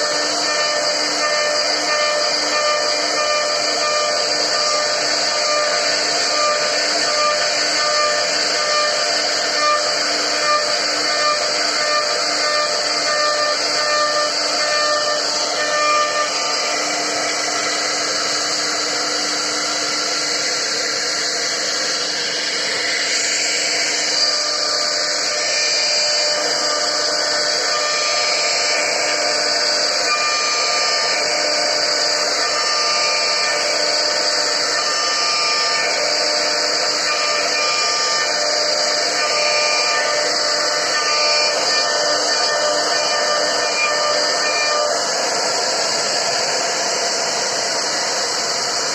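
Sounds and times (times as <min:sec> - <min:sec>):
bit carving wood: 0:00.0 - 0:48.9
router spindle whining: 0:00.0 - 0:48.9.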